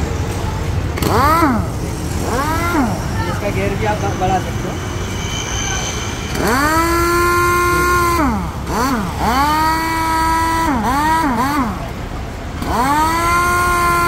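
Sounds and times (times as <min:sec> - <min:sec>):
air impact wrench whining: 0:00.0 - 0:14.0.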